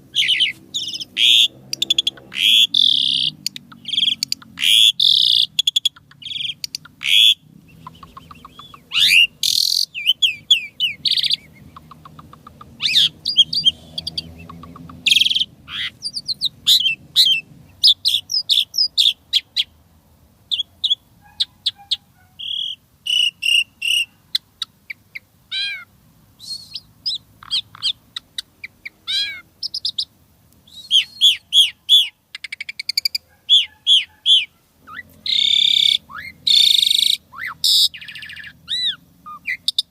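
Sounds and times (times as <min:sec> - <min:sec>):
starling singing: 0:00.0 - 0:19.8, 0:20.5 - 0:39.9.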